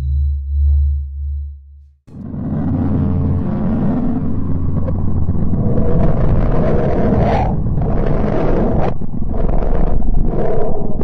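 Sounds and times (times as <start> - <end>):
deep synthetic space drone: 0.0 - 11.0.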